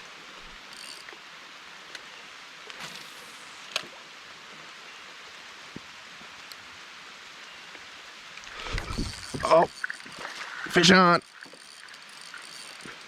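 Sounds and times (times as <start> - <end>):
rain falling on water: 0.0 - 8.6, 9.2 - 13.0.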